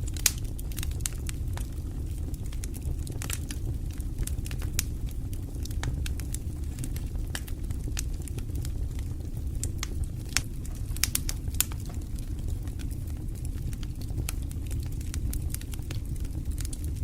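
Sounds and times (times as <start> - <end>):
logs crackling and popping: 0.0 - 17.0
low rumble of flame: 0.0 - 17.0.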